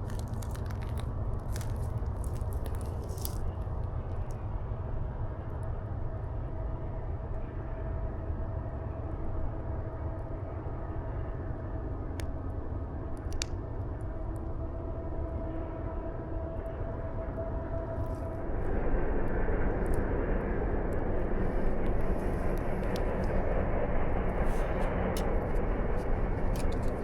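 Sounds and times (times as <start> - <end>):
low drone with held tone: 2.9 - 27.0.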